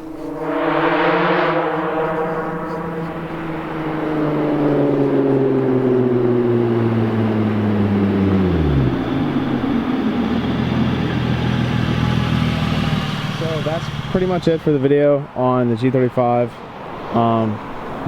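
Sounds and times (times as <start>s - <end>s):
car engine revving down to idle: 0.0s - 14.9s.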